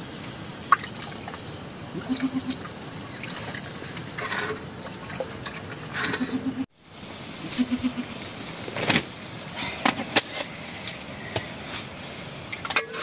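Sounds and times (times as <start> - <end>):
steady hiss of wood fire: 0.0 - 13.0.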